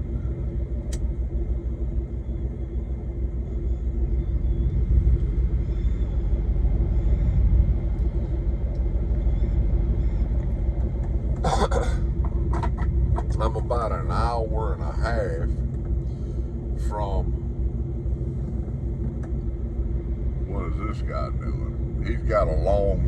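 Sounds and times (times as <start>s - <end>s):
truck engine and road drone: 0.0s - 23.0s.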